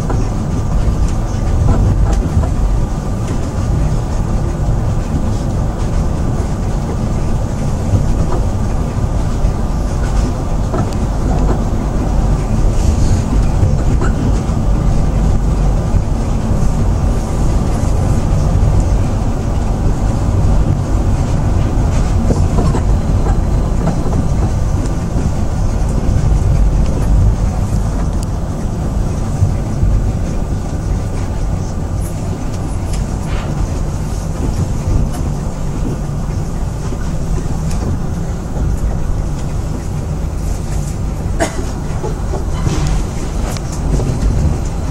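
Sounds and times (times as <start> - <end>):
train rumbling from inside: 0.0 - 44.9.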